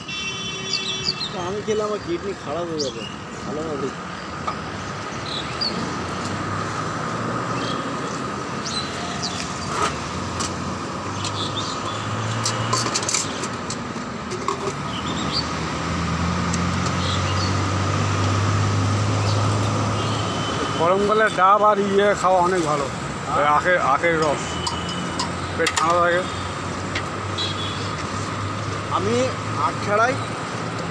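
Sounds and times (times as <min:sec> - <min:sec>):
low engine hum of traffic: 0:00.0 - 0:30.9.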